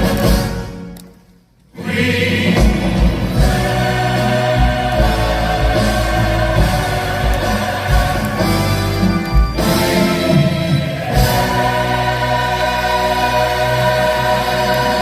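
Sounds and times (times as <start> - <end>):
orchestral music with heavy beat: 0.0 - 1.0, 1.8 - 15.0
cast singing in full chorus: 1.7 - 15.0.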